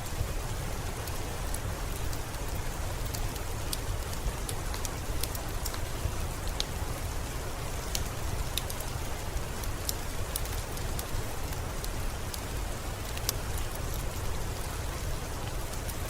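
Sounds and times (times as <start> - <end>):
steady rain: 0.0 - 16.0
wood fire crackling: 0.1 - 16.0.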